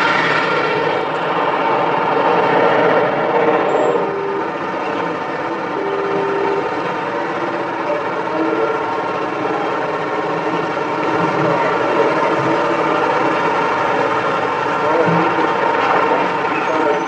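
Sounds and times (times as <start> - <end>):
heavy truck engine: 0.0 - 17.0
road noise: 0.0 - 17.0.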